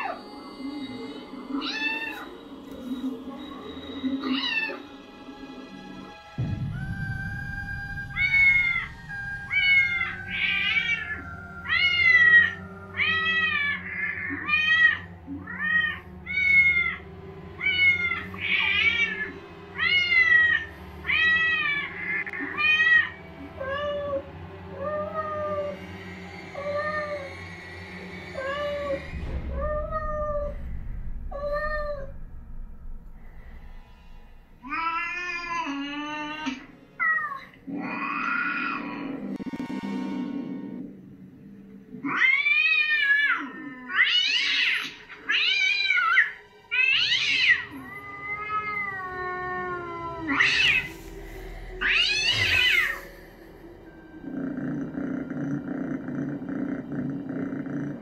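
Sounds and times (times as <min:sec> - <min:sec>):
eerie music with low drone: 0:00.0 - 0:58.0.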